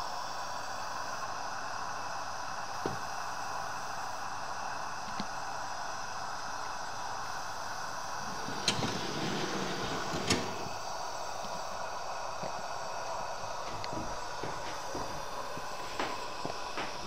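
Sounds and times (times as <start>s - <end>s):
steam hissing from model boiler: 0.0s - 17.0s.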